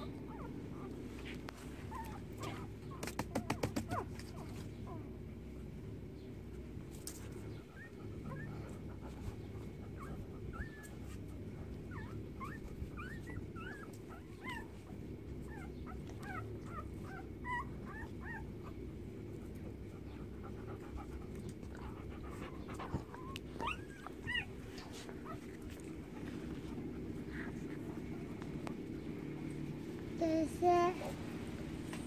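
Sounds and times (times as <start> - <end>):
puppies whimpering: 0.0 - 3.1, 7.3 - 31.2
low background rumble: 0.0 - 32.0.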